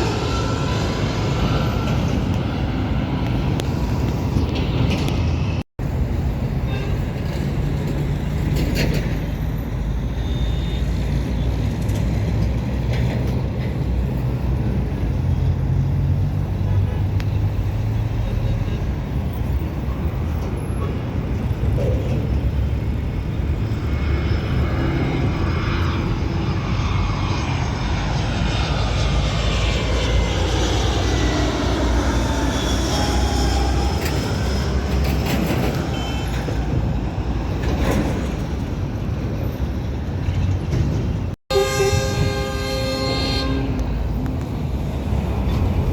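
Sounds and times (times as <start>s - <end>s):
jet airliner passing overhead: 0.0s - 45.9s.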